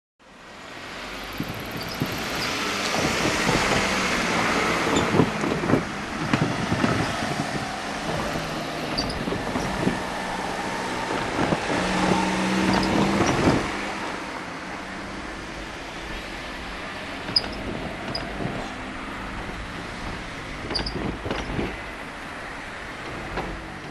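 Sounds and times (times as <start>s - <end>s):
vehicle passing by: 0.8s - 23.9s.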